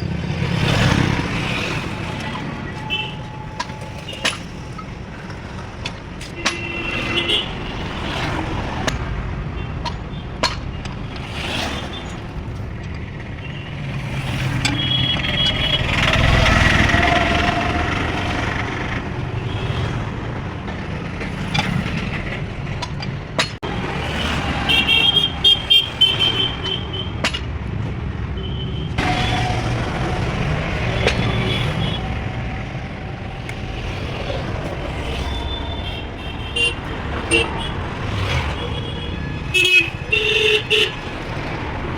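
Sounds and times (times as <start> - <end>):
vehicle engines rumbling: 0.0 - 41.9.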